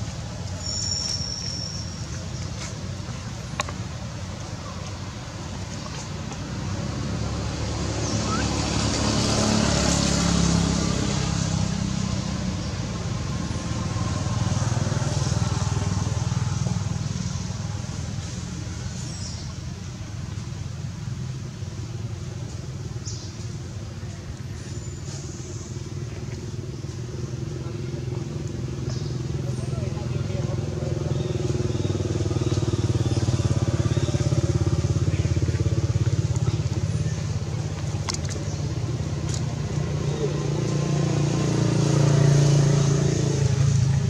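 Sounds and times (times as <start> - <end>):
road vehicles passing: 0.0 - 44.0.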